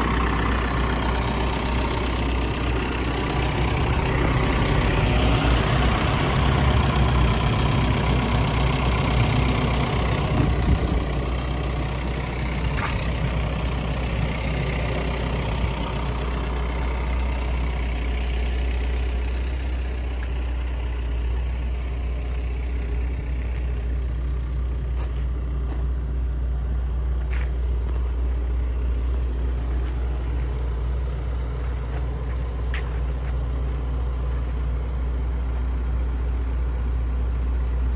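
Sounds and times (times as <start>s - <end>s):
diesel excavator engine idling: 0.0s - 37.9s.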